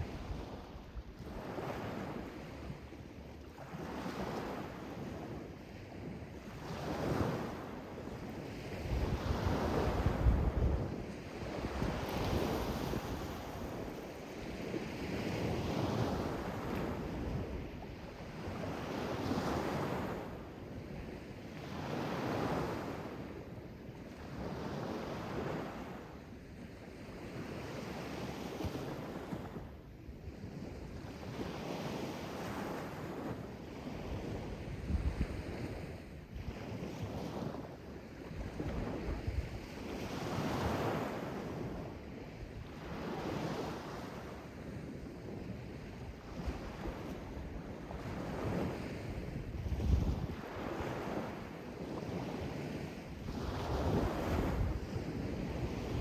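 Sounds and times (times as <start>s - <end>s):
wind rumbling on microphone: 0.0s - 3.0s, 3.6s - 23.3s, 27.0s - 56.0s.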